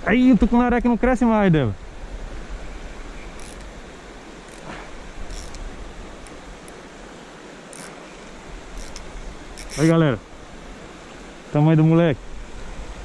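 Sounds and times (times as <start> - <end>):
rushing outdoor noise with low rumble: 0.0 - 13.0.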